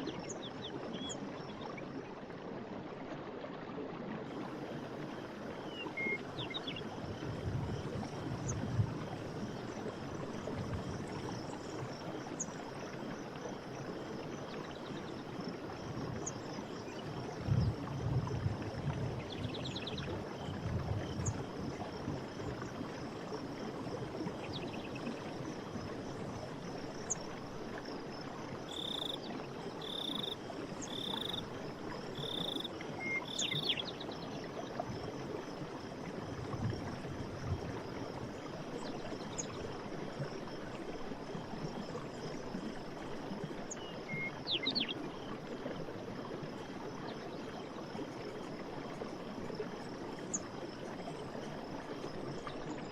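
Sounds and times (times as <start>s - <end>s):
forest stream running: 0.0s - 52.9s.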